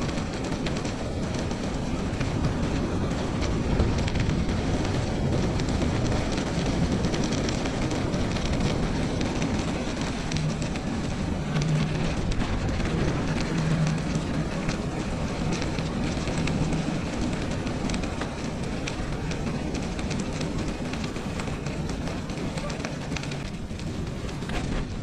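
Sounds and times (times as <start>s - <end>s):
bicycle tyres crackling on snow: 0.0s - 25.0s
wind buffeting microphone: 0.0s - 25.0s.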